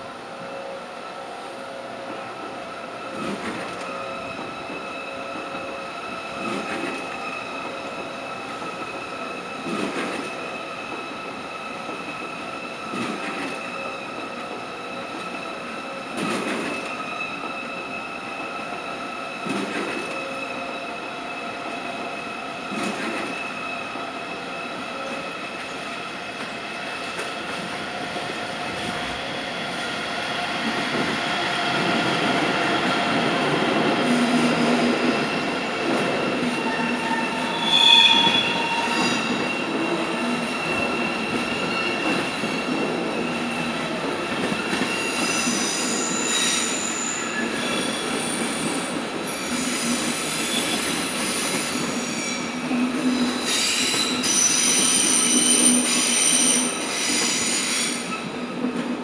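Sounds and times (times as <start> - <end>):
train wheel squeal: 0.3 - 58.8.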